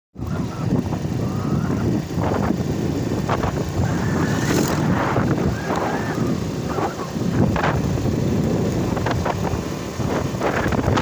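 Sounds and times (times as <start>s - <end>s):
motorcycle engine running: 0.2s - 11.0s
wind buffeting microphone: 0.2s - 11.0s.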